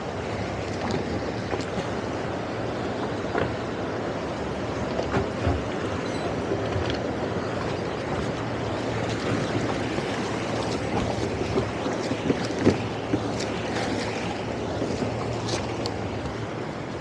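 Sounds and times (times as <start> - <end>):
outboard engines humming: 0.0 - 17.0
water washing along hull: 0.0 - 17.0.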